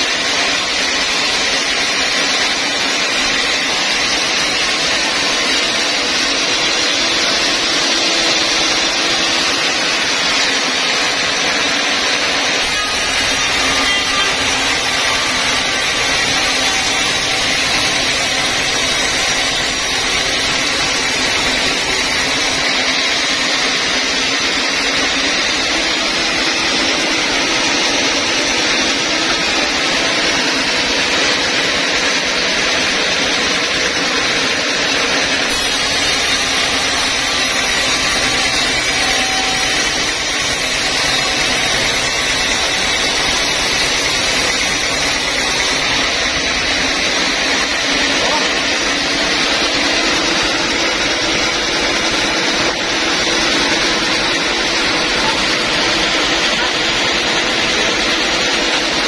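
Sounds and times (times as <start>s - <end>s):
band saw cutting timber: 0.0s - 59.0s.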